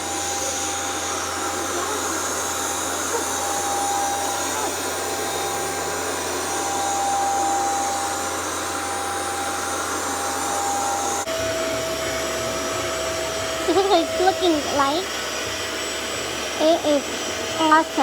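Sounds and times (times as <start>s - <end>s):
carpet washer motor running: 0.0s - 18.0s.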